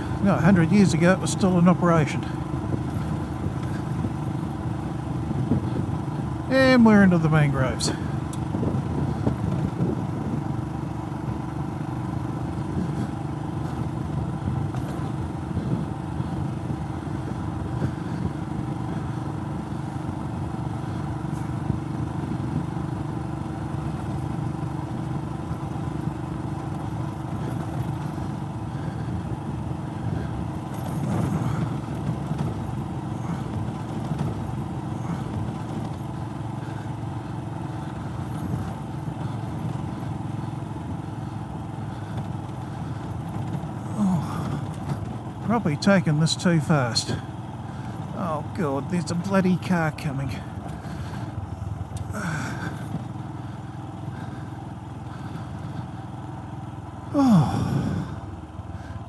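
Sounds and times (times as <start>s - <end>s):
motorcycle engine running: 0.0s - 59.0s
tyres on gravel: 0.0s - 59.0s.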